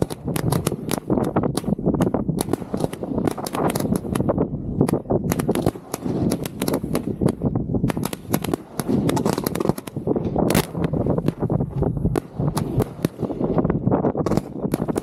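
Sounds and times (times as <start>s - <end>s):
fireworks barrage: 0.0s - 15.0s.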